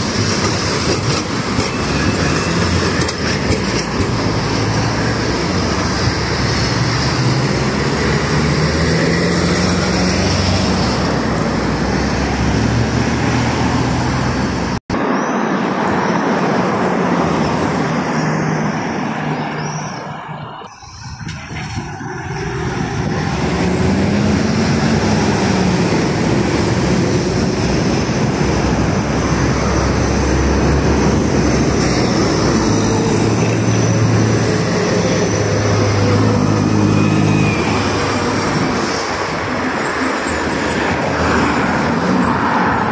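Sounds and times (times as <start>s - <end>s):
bus engine drone: 0.0s - 42.9s
street traffic: 0.0s - 42.9s.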